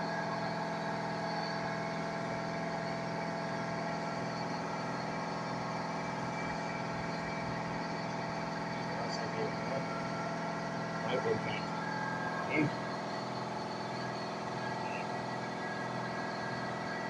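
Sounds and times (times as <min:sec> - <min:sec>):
electric machine hum: 0:00.0 - 0:17.0
faint high whine: 0:00.0 - 0:17.0.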